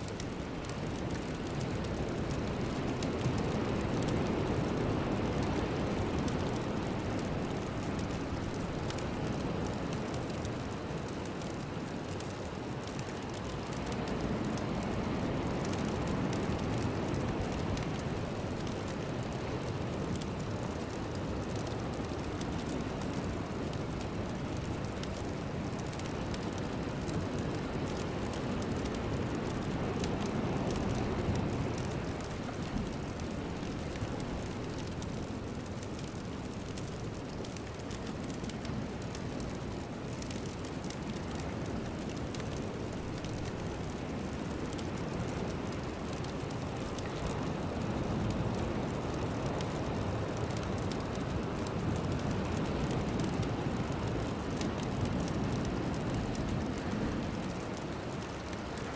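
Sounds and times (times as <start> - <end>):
deep rushing noise with crackle: 0.0 - 58.9.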